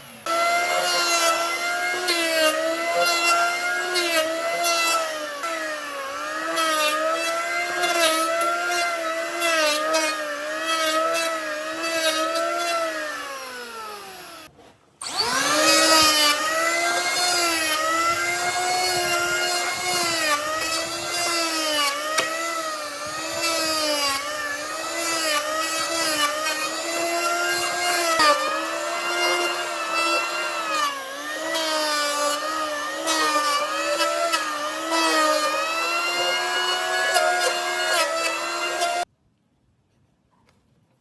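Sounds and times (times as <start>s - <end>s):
power tool whining in wood: 0.0s - 39.1s.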